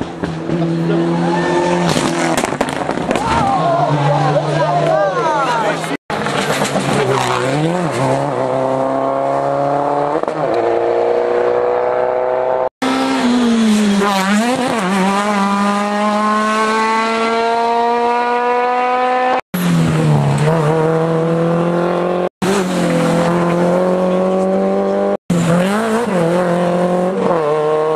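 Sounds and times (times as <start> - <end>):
rally car engines at full throttle: 0.0 - 27.9.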